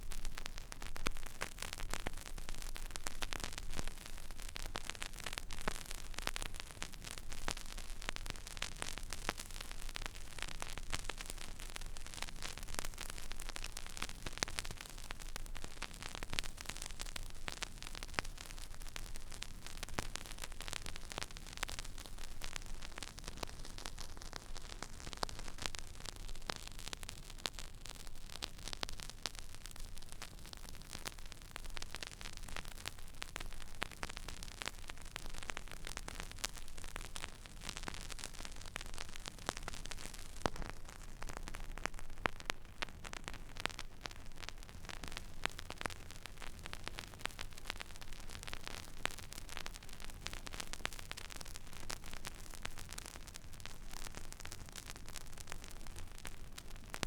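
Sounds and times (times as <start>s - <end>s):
vinyl surface hiss and crackles: 0.0s - 57.0s.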